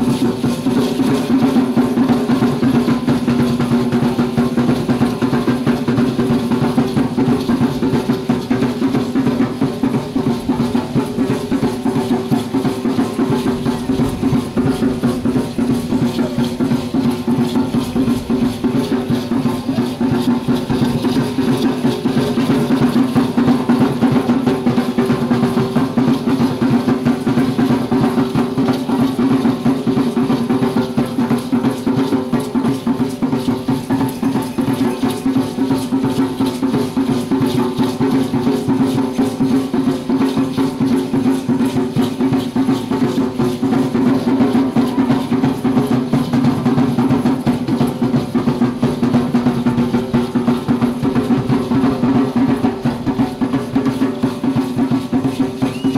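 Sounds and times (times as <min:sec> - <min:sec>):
drum beaten fast: 0:00.0 - 0:55.9.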